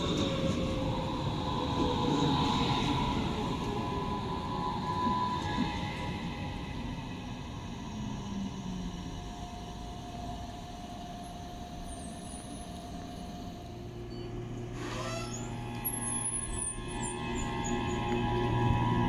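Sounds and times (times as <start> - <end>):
electric train humming: 0.0 - 19.0
faint high-pitched squeals: 0.0 - 19.0
train whining tones: 0.0 - 19.0.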